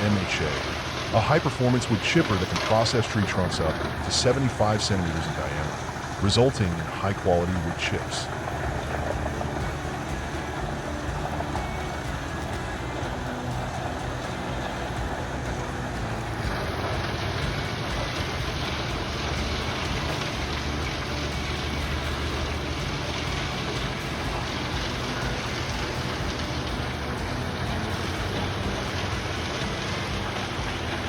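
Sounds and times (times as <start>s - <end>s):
wood chipper engine drone: 0.0s - 31.0s
wood chipper rushing noise: 0.0s - 31.0s.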